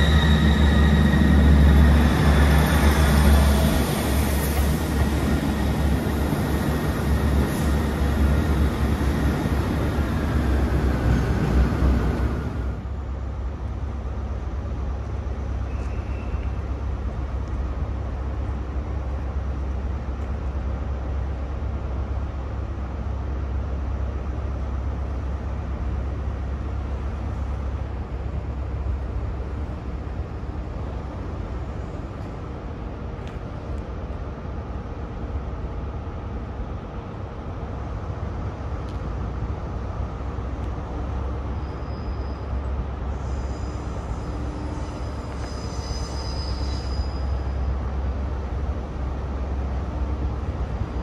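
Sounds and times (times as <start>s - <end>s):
diesel train engine hum: 0.0s - 51.0s.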